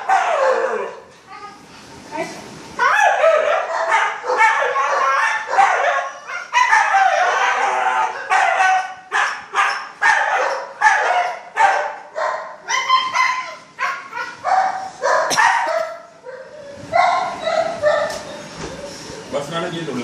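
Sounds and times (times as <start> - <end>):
dogs whining and yelping: 0.0 - 1.1, 2.8 - 19.3.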